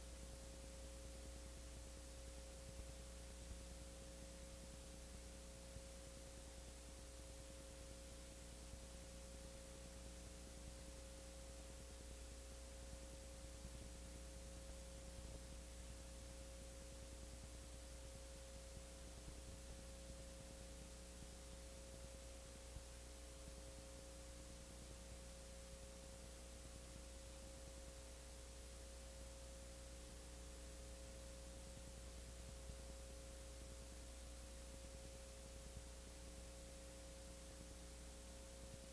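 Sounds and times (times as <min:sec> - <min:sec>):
faint electrical hum: 0:00.0 - 0:38.9.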